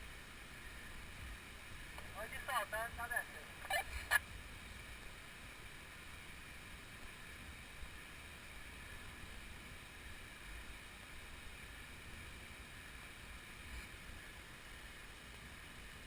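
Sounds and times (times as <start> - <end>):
faint steady rushing noise: 0.0 - 16.0.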